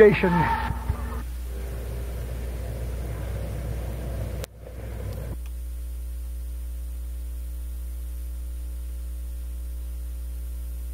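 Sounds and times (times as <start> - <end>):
background room noise: 0.0 - 10.9
electrical mains hum with hiss: 0.0 - 10.9.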